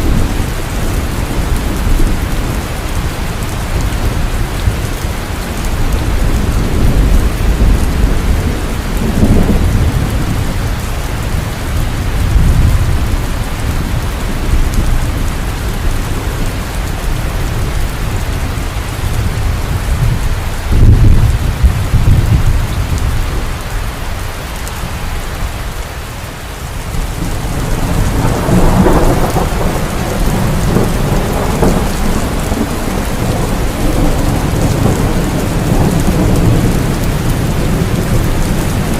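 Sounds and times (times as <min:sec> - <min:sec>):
thunder rumbling: 0:00.0 - 0:25.7, 0:26.8 - 0:38.9
heavy rain falling: 0:00.0 - 0:38.9.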